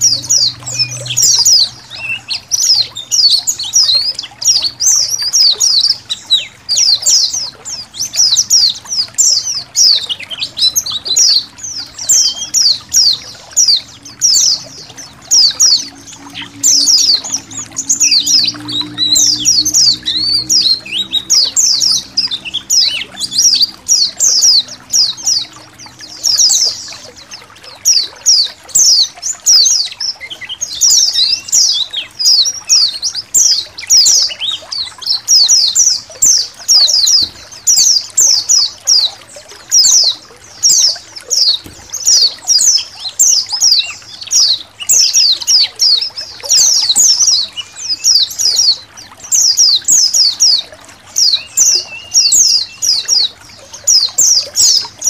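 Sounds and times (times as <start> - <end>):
birds chirping and singing: 0.0 - 55.0
water trickling: 0.0 - 55.0.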